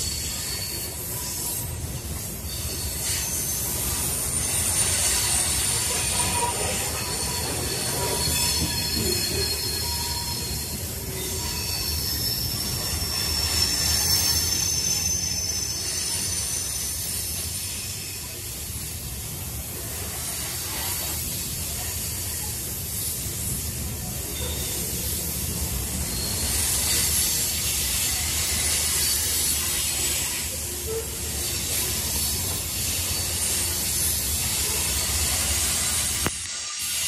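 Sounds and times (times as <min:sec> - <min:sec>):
high wheel squeal: 0:00.0 - 0:18.6, 0:20.0 - 0:37.0
train rumble and hiss: 0:00.0 - 0:37.0.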